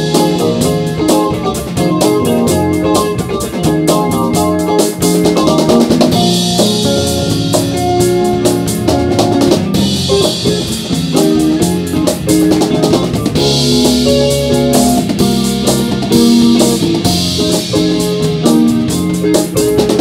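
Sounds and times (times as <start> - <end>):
bass guitar: 0.0 - 20.0
drum beat: 0.0 - 20.0
sustained guitar notes: 0.0 - 20.0.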